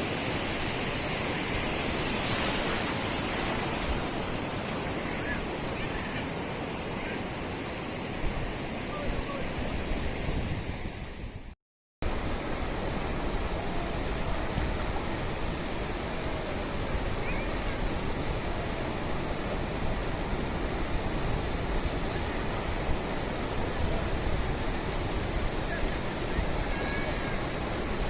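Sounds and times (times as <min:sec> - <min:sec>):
sea surf washing onto beach: 0:00.0 - 0:11.2, 0:12.1 - 0:28.0.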